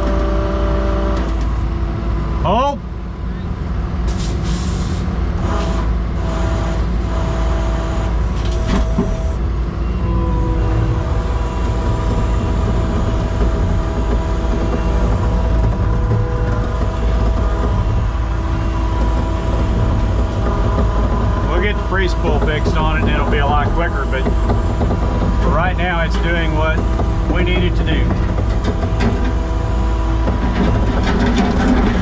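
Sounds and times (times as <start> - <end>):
engine drone under load: 0.0 - 32.0
winch whine: 5.5 - 32.0.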